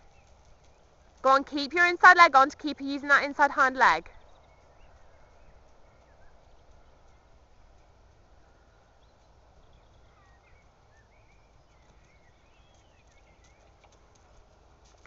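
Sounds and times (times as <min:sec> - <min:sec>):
distant birds chirping: 0:00.0 - 0:14.2.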